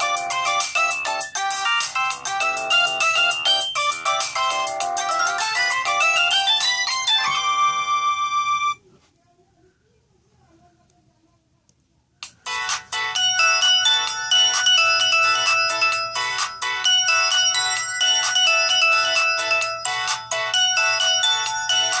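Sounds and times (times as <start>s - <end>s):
electronic ringtone melody: 0.0s - 8.8s, 12.4s - 22.0s.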